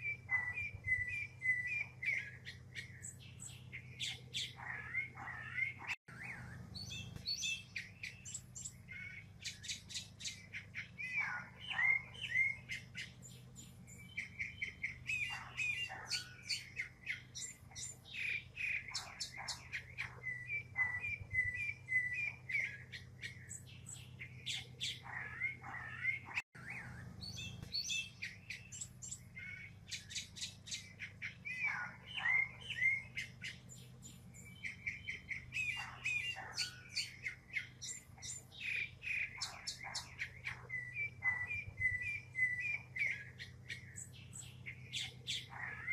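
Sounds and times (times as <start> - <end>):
mockingbird singing: 0.0 - 45.9.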